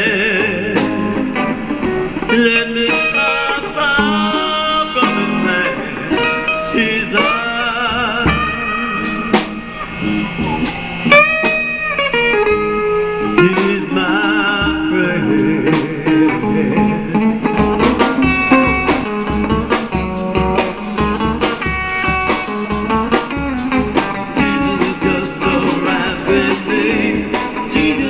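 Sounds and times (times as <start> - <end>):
lead guitar solo: 0.0 - 27.8
bass guitar: 0.0 - 28.0
steady drum beat: 0.3 - 28.0.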